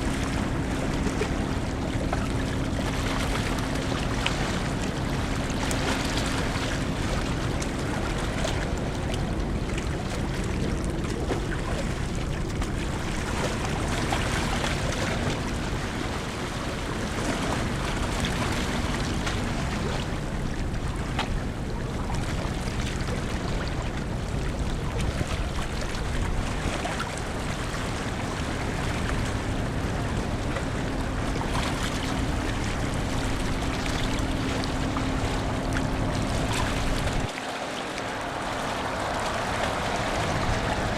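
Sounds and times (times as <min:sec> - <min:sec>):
faint ship hum: 0:00.0 - 0:40.9
ship low rumble: 0:00.0 - 0:40.9
water rushing: 0:00.0 - 0:40.9.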